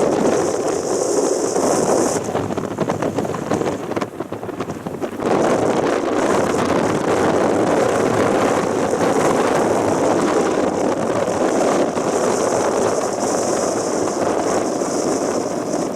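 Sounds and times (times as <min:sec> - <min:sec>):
strong wind on microphone: 0:00.0 - 0:15.9.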